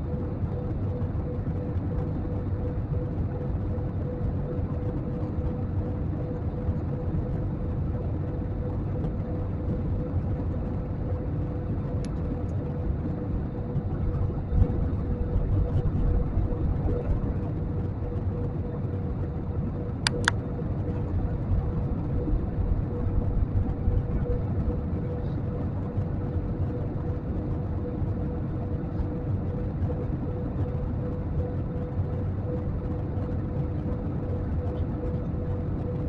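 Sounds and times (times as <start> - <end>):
faint steady hum: 0.0 - 36.0
jet airliner cabin roar: 0.0 - 36.0.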